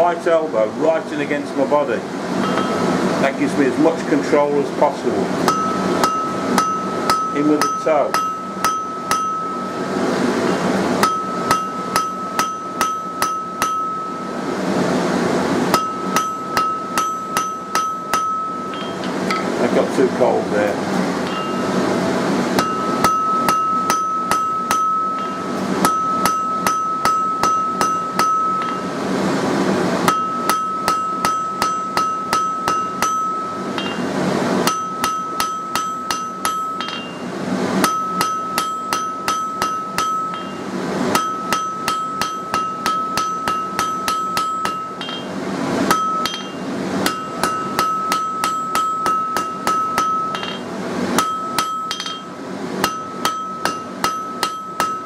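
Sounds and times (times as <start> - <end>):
hammer striking steel on anvil: 2.4 - 2.9, 5.4 - 9.8, 10.4 - 14.3, 15.7 - 19.6, 21.2 - 21.8, 22.6 - 29.0, 30.0 - 55.0
anvil ringing: 2.4 - 3.0, 5.4 - 9.8, 10.4 - 14.3, 15.7 - 19.6, 21.2 - 21.8, 22.6 - 29.0, 30.1 - 55.0.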